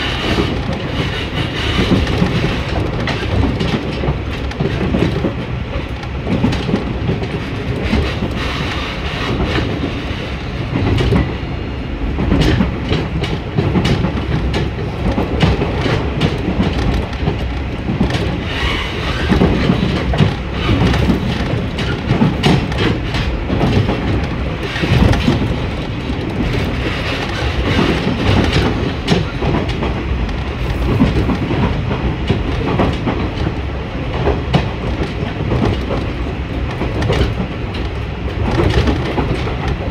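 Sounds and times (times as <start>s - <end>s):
train rumble: 0.0s - 39.9s
wheels clicking over rail joints: 0.2s - 10.0s, 12.2s - 39.9s.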